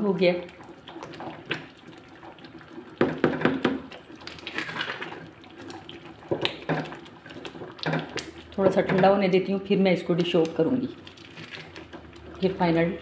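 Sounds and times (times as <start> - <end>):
spatula stirring thick pudding: 0.3 - 13.0.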